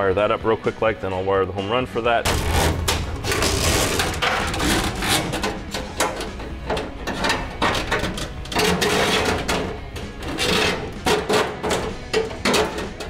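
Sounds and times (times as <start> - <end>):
metal cable and box rattling: 2.2 - 13.0.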